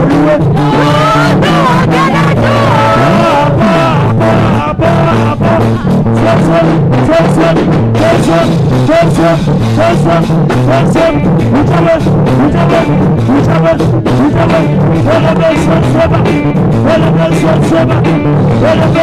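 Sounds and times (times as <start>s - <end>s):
drum beats: 0.0s - 19.0s
repeating bass line: 0.0s - 19.0s
sliding melodic lead line: 0.0s - 19.0s.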